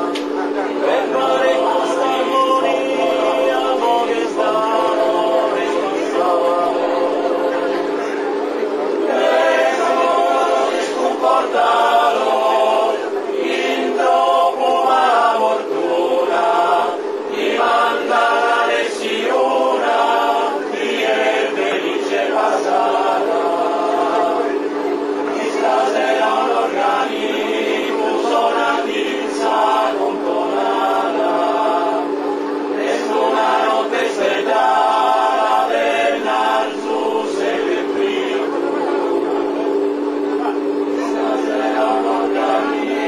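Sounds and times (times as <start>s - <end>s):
men's choir singing: 0.0s - 8.2s, 9.0s - 43.0s.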